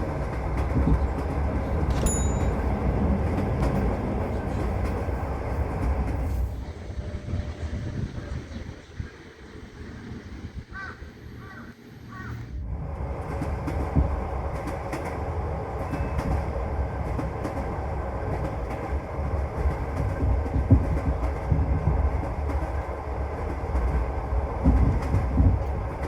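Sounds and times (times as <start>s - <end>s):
rail clicks: 0.0s - 26.0s
train wheels rumbling: 0.0s - 26.0s.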